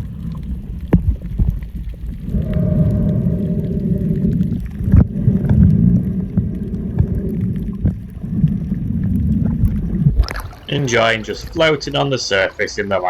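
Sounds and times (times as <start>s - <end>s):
boat engine drone underwater: 0.0s - 13.0s
underwater rumble of water: 0.0s - 13.0s.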